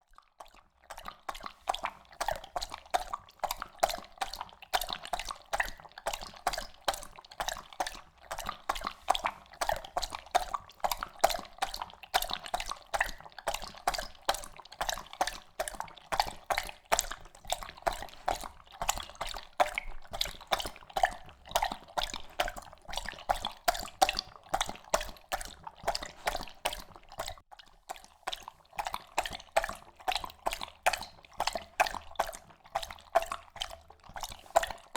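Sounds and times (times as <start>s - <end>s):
dog lapping water: 0.1s - 34.9s.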